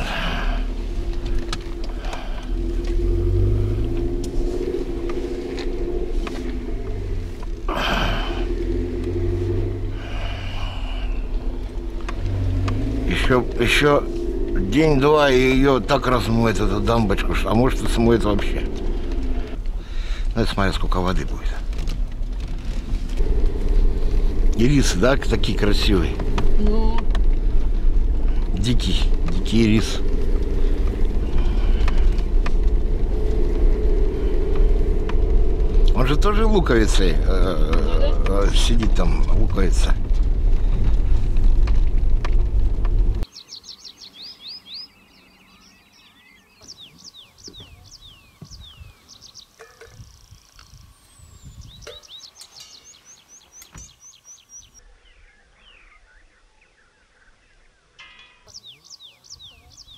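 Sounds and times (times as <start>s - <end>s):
car engine and tyre rumble: 0.0s - 56.2s
songbirds chirping: 0.0s - 59.9s.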